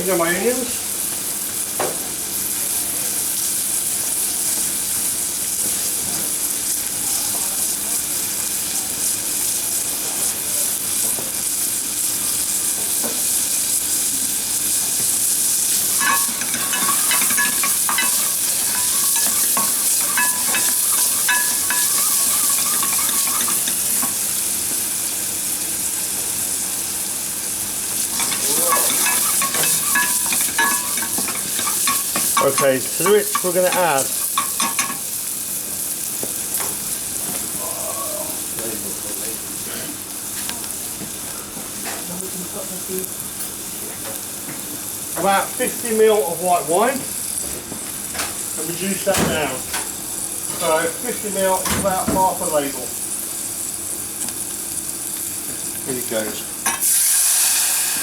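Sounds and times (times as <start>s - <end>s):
onions sizzling in oil: 0.0s - 58.0s.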